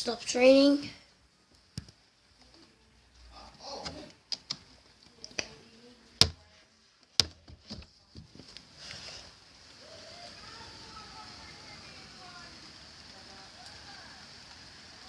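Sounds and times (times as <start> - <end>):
rain hissing: 0.0 - 6.8, 8.3 - 15.0.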